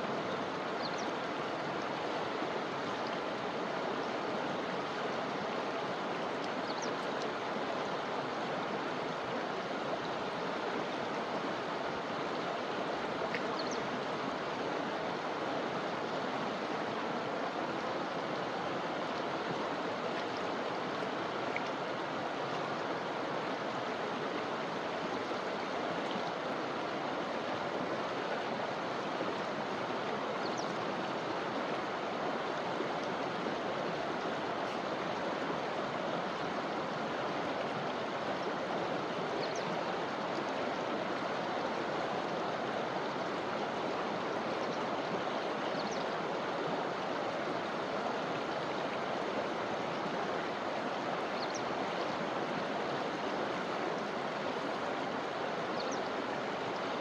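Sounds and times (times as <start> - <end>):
river water over rocks: 0.0 - 57.0.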